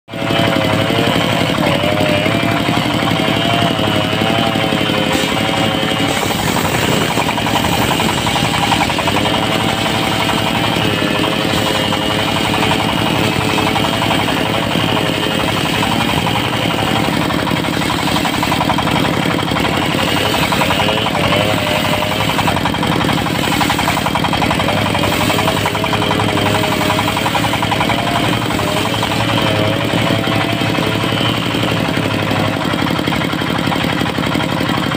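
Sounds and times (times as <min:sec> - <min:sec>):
diesel engine droning: 0:00.0 - 0:34.9
saw blade whining: 0:00.1 - 0:34.9.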